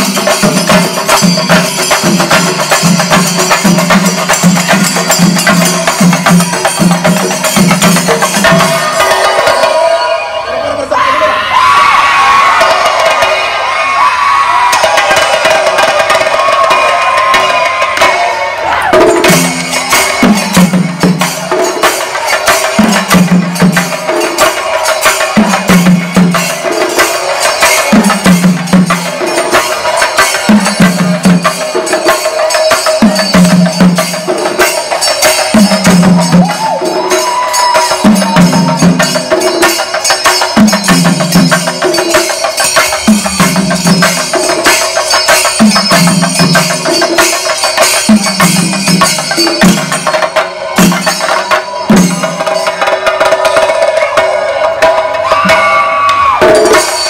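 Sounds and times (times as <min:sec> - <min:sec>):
cymbals clashing: 0:00.0 - 0:10.8, 0:12.2 - 0:57.0
chenda drums beaten fast: 0:00.0 - 0:57.0.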